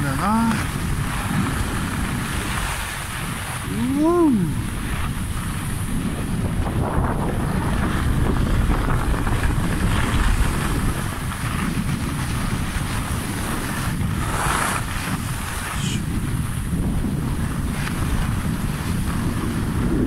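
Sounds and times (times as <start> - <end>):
skis sliding on snow: 0.0 - 20.0
wind rushing over microphone: 0.0 - 20.0.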